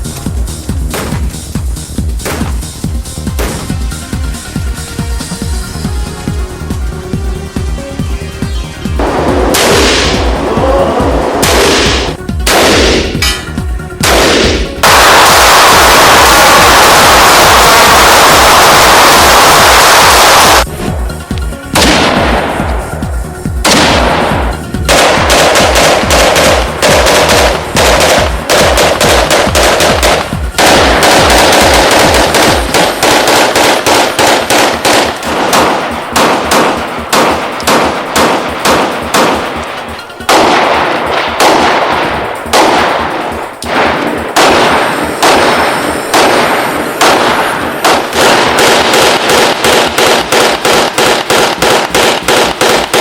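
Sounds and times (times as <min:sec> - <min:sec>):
rapid gunfire: 0:00.0 - 0:04.1, 0:09.0 - 0:20.7, 0:21.8 - 0:53.0.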